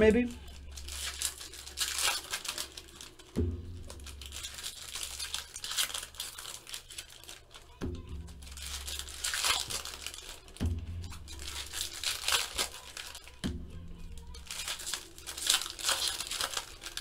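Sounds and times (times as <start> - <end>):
foil wrappers tearing and crinkling: 0.0 - 17.0.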